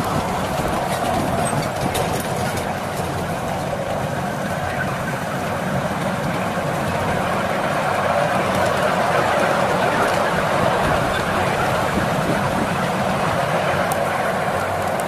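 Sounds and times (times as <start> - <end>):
miniature locomotive engine running: 0.0 - 15.0
wheels rumbling on rails: 0.0 - 15.0.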